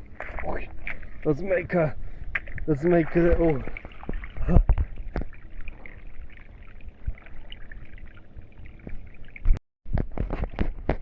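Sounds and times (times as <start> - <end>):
faint trickling water: 0.0 - 9.6
wind on microphone: 0.0 - 11.0.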